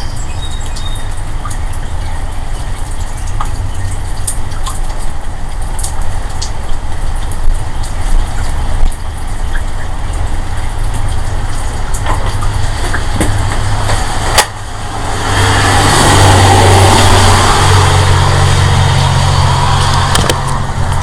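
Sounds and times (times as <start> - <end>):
low droning rumble: 0.0 - 21.0.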